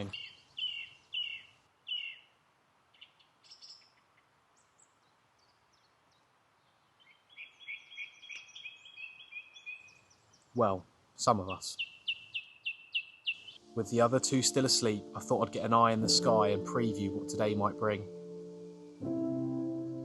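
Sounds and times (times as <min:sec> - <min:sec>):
song thrush singing: 0:00.0 - 0:20.0.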